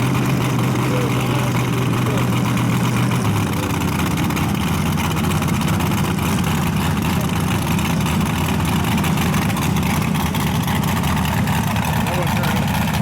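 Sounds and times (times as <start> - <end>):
dragster engine running rough: 0.0 - 13.0.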